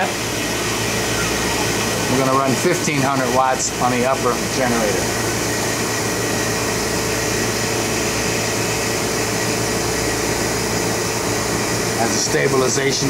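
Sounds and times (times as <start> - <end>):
machine hum and whir: 0.0 - 13.0.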